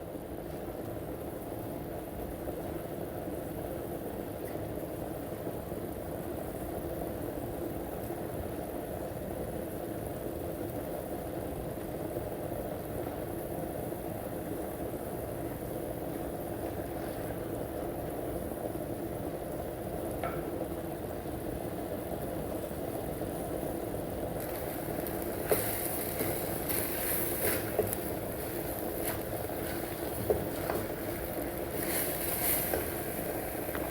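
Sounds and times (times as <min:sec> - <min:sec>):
soup boiling and bubbling: 0:00.0 - 0:33.9
bright hiss: 0:01.0 - 0:33.9.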